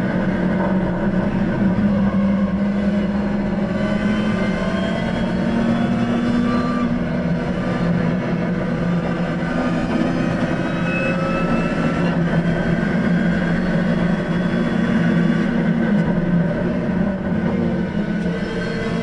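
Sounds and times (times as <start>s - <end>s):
car engine under load: 0.0s - 19.0s
wind and road noise: 0.0s - 19.0s.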